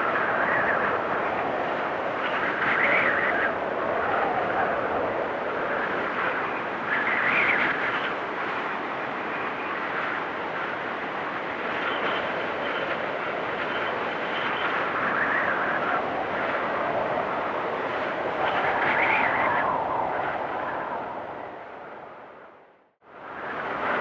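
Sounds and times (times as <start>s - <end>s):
storm wind rushing: 0.0s - 24.0s.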